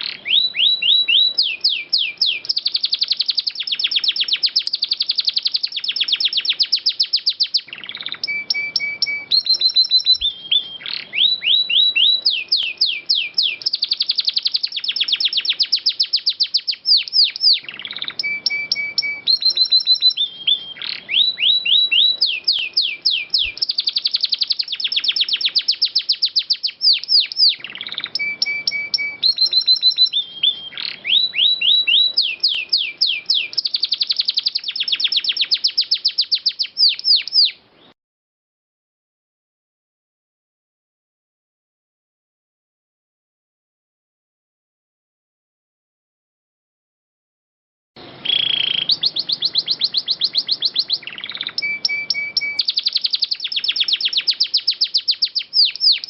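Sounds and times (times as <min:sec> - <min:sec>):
canary singing trills: 0:00.0 - 0:38.0, 0:48.0 - 0:56.0.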